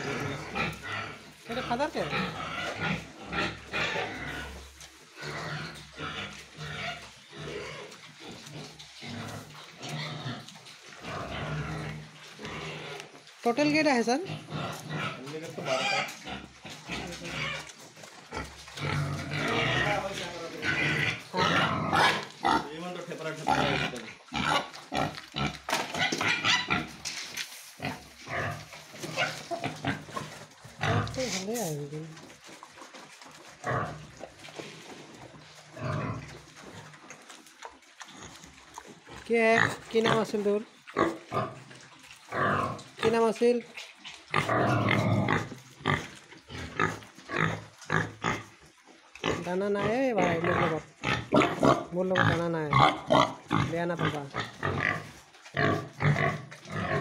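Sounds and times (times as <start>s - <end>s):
pig grunting: 0.0s - 27.1s, 27.8s - 37.4s, 38.0s - 57.0s.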